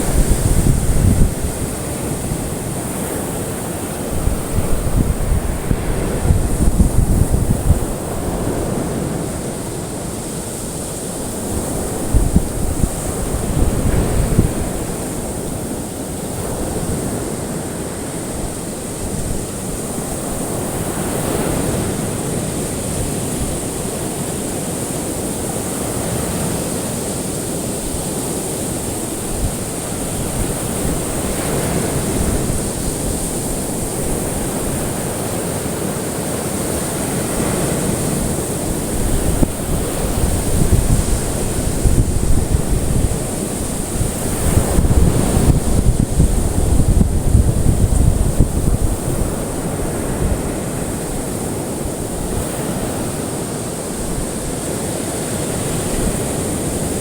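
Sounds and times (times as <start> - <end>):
constant high hiss: 0.0 - 57.0
ocean waves washing on shore: 0.0 - 57.0.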